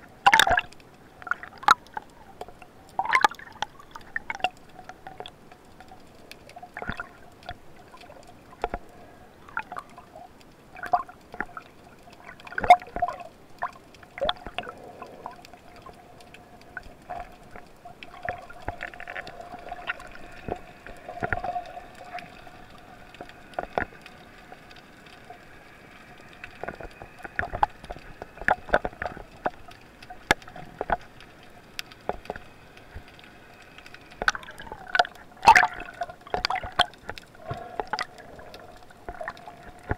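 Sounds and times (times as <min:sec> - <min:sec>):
underwater hum: 0:00.0 - 0:39.9.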